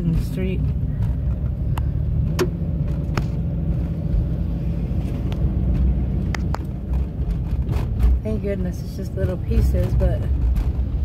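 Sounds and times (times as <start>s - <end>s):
car driving rumble from inside: 0.0s - 11.0s.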